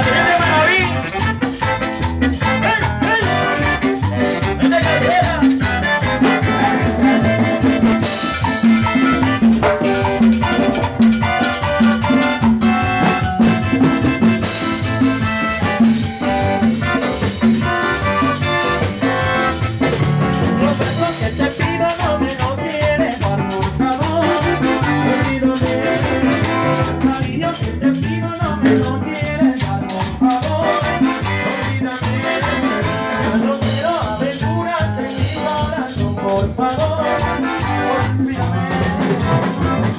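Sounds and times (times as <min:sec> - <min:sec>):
latin dance band playing: 0:00.0 - 0:39.9
steady percussion beat: 0:00.0 - 0:39.9.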